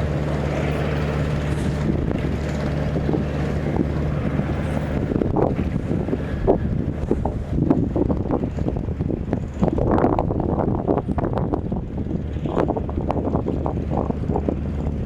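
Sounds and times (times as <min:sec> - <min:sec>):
engine humming: 0:00.0 - 0:15.0
wind buffeting microphone: 0:00.0 - 0:15.0.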